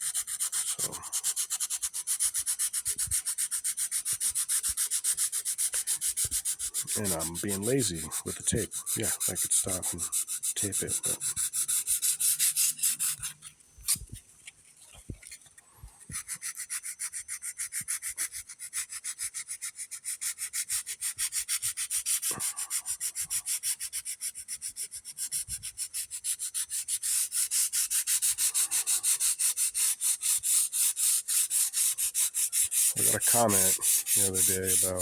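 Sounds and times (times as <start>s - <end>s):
sandpaper sanding by hand: 0.0s - 14.1s, 16.1s - 35.0s.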